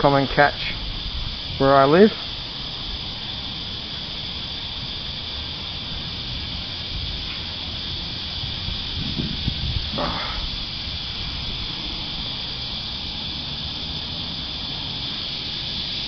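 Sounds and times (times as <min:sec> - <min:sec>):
cicada chorus drone: 0:00.0 - 0:16.0
low rumbling: 0:00.0 - 0:16.0.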